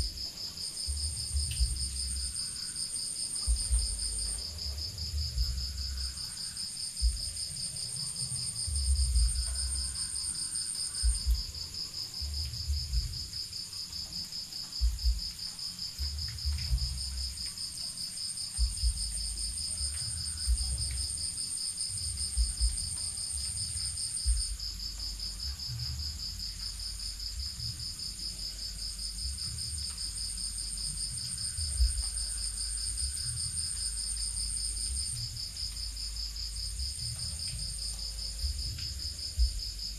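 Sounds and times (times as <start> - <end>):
low rumbles and thumps: 0.0 - 2.4, 3.4 - 6.1, 7.0 - 9.8, 11.0 - 13.5, 14.8 - 15.4, 16.0 - 17.4, 18.6 - 39.9
crickets trilling: 0.0 - 39.9
higher cricket trill: 0.0 - 39.9.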